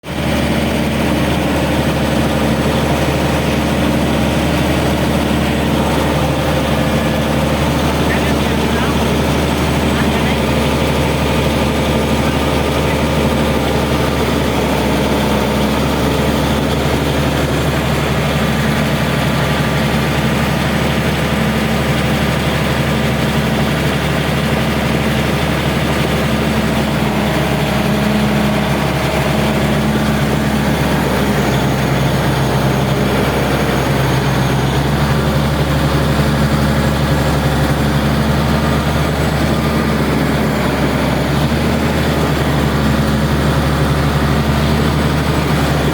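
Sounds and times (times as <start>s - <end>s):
bulldozer diesel engine idling: 0.0s - 45.9s.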